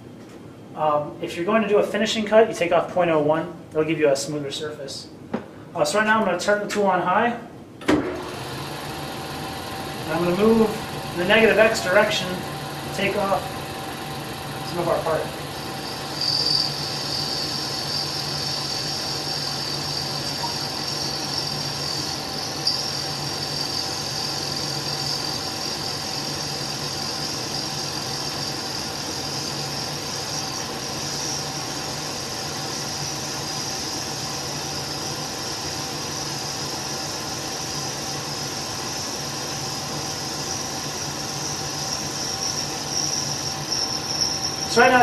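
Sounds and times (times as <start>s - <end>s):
low machine hum: 7.5s - 45.0s
high-pitched lathe cutting: 8.2s - 45.0s.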